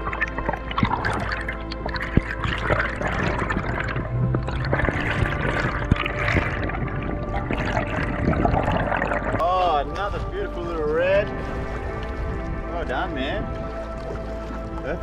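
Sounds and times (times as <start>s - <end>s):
water sloshing and bubbling: 0.0s - 15.0s.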